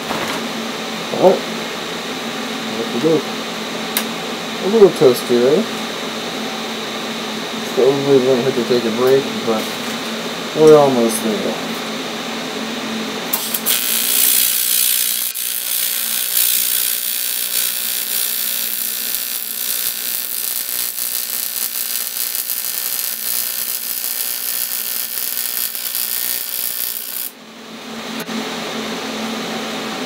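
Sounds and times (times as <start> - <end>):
steady hum: 0.0 - 30.0
welding arc buzz and hiss: 3.8 - 28.3.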